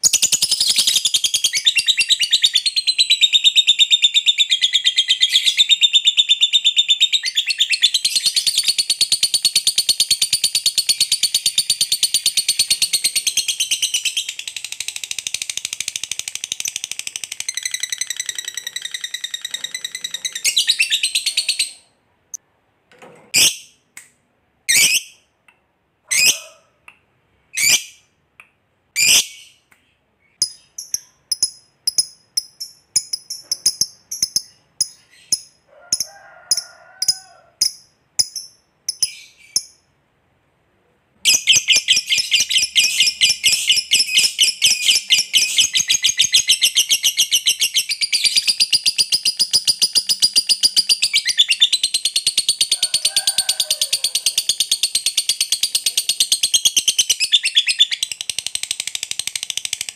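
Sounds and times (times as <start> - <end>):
lovebird chirping and trilling: 0.0 - 22.0, 23.3 - 23.8, 24.7 - 25.2, 26.1 - 26.5, 27.6 - 28.1, 29.0 - 39.8, 41.2 - 52.8, 54.1 - 59.9.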